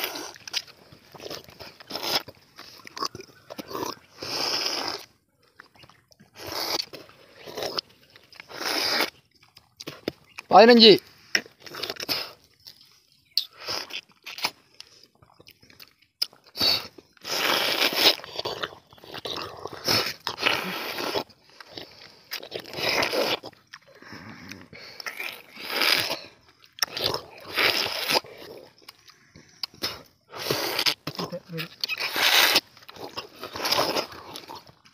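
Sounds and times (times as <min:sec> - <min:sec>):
people slurping and biting fruit: 0:00.0 - 0:34.9.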